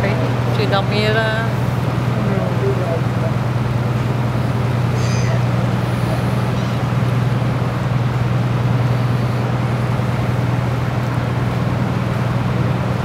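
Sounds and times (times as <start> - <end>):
motor boat engine droning: 0.0 - 13.0.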